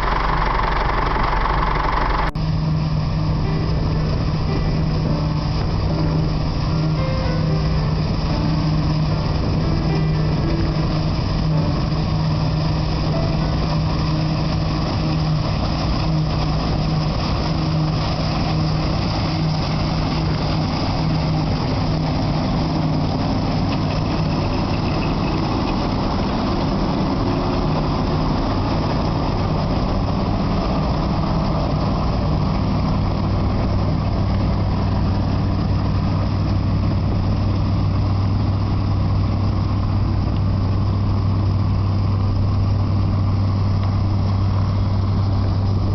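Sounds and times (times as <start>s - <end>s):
combine harvester engine drone: 0.0s - 45.9s
harvester machinery noise: 0.0s - 45.9s.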